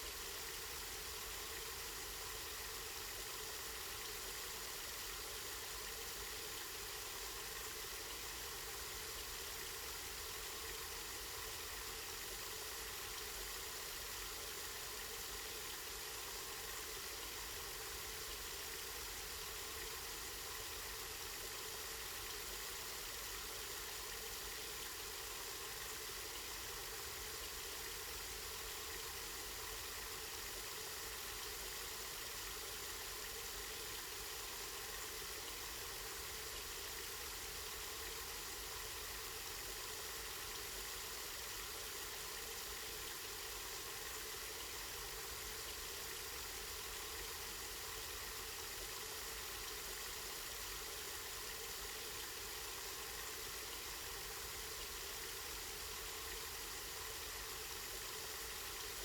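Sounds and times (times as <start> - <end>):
spring water flowing: 0.0 - 59.0.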